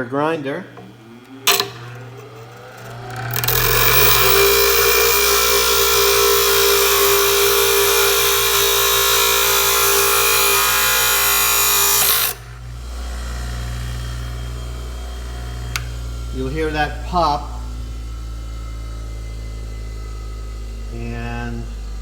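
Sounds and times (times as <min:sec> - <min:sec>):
grinder grinding metal: 0:00.0 - 0:17.7.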